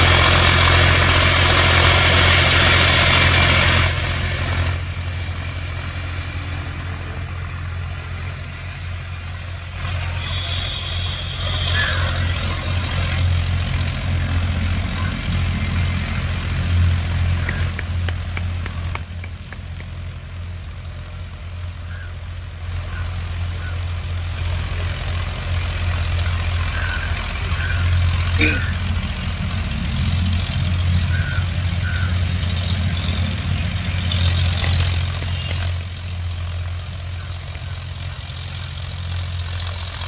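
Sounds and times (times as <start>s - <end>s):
tractor diesel engine drone: 0.0s - 40.0s.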